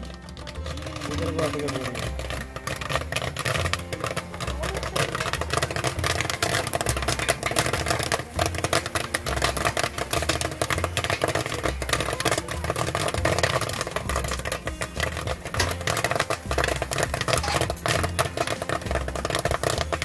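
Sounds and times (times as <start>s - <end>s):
popcorn popping: 0.0s - 20.0s.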